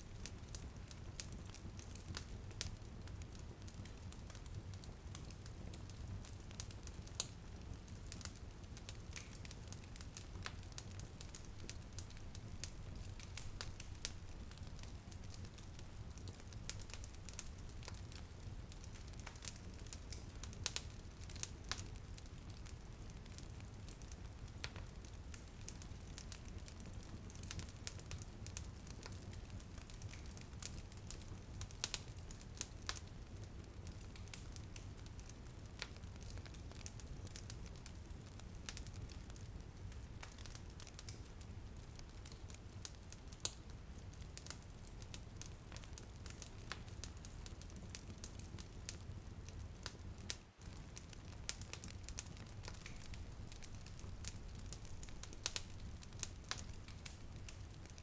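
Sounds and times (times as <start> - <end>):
light rain: 0.0 - 58.0
wood fire crackling: 0.0 - 58.0.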